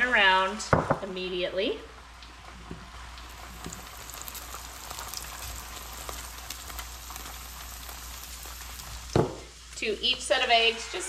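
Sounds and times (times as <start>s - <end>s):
eggs sizzling in butter: 2.1s - 11.0s.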